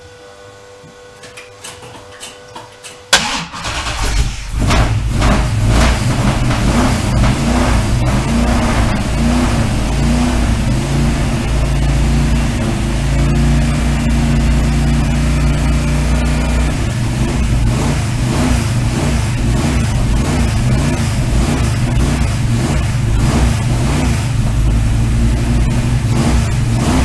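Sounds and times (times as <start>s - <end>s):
car engine running: 3.2s - 27.0s.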